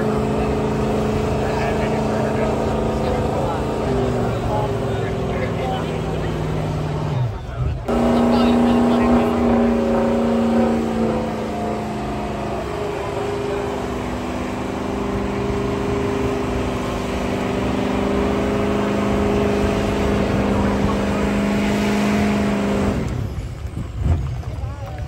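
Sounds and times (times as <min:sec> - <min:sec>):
diesel engine revving high: 0:00.0 - 0:24.4.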